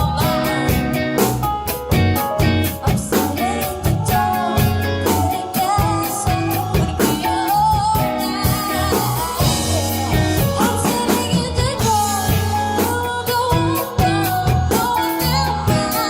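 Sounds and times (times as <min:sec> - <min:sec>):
person singing: 0:00.0 - 0:01.4, 0:02.6 - 0:16.0
band playing pop-rock: 0:00.0 - 0:16.0.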